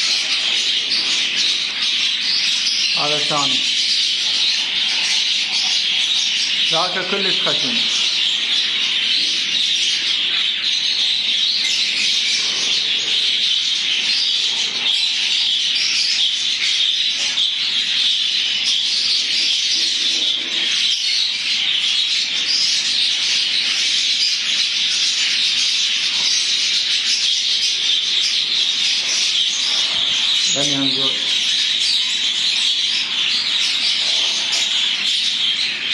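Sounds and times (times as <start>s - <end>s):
flock of budgerigars chattering: 0.0s - 35.9s.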